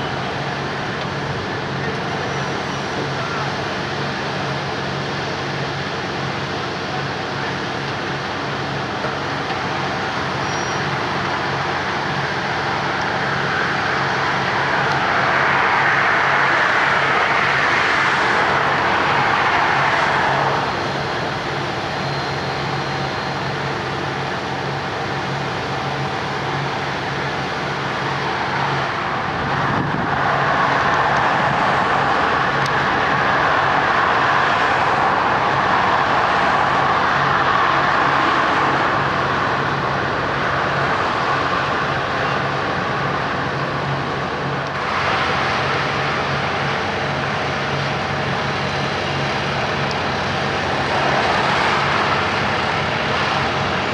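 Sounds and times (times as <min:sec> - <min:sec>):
broad rushing noise: 0:00.0 - 0:53.9
diesel engines humming: 0:00.0 - 0:53.9.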